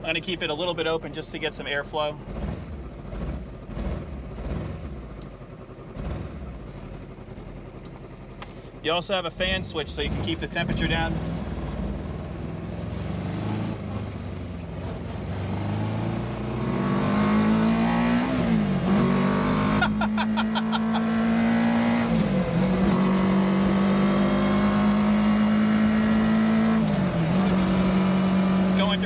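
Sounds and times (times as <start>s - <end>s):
engine accelerating with gear shifts: 0.0s - 29.0s.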